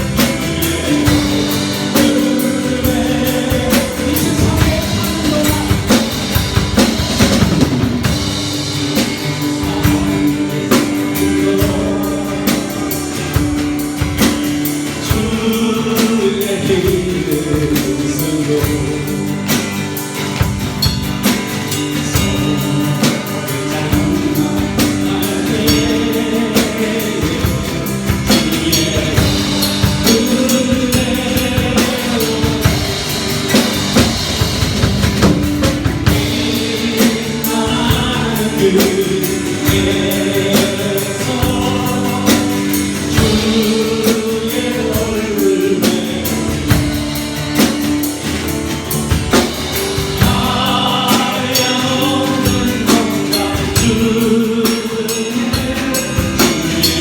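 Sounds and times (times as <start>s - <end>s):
people singing: 0.0s - 57.0s
worship band playing: 0.0s - 57.0s.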